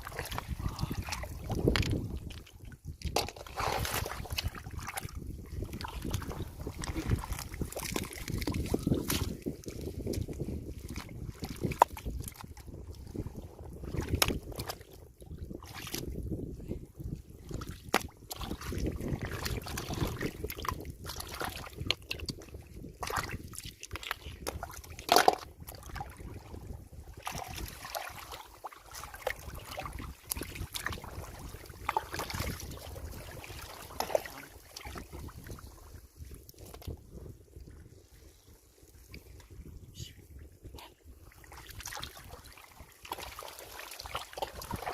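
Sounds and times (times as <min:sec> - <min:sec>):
shallow water sloshing and splashing: 0:00.0 - 0:44.9.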